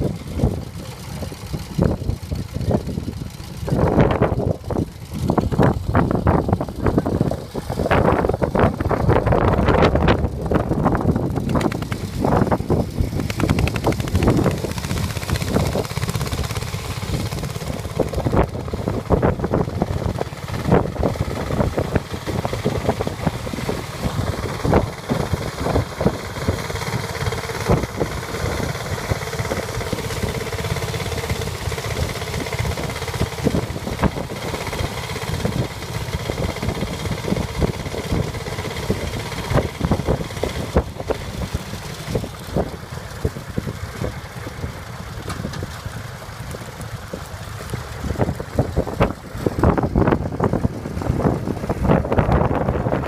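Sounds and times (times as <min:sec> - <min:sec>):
tractor engine running: 0:00.0 - 0:53.0
wind buffeting microphone: 0:00.0 - 0:53.0.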